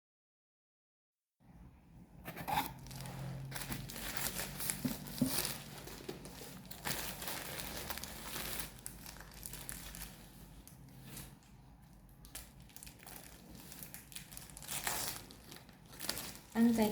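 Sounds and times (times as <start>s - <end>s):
packaging tearing: 2.3s - 11.5s, 12.2s - 16.8s
packaging crinkling: 2.4s - 16.9s.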